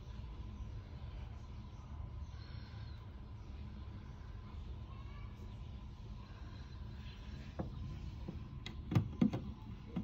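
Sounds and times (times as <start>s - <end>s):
faint constant high tone: 0.0s - 8.4s
low background rumble: 0.0s - 10.0s.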